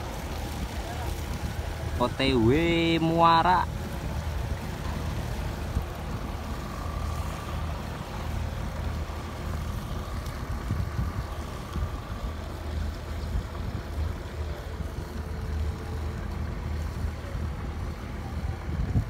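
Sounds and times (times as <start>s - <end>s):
diesel boat engine chugging: 0.0s - 19.0s
faint steady whine: 0.0s - 19.0s.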